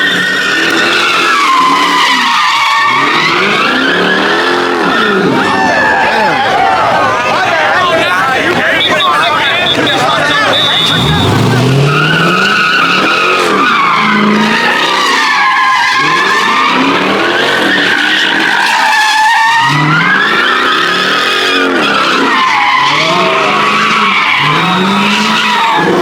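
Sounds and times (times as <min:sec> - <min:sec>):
car engine revving: 0:00.0 - 0:26.0
tire screech: 0:00.0 - 0:26.0.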